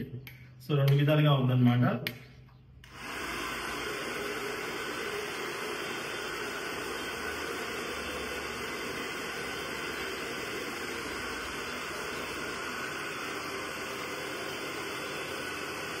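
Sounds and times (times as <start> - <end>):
hair dryer blowing air: 2.8 - 16.0.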